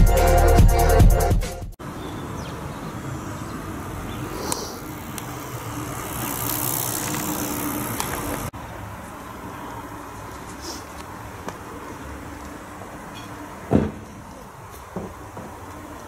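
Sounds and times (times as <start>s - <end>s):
road traffic noise: 1.8s - 16.0s.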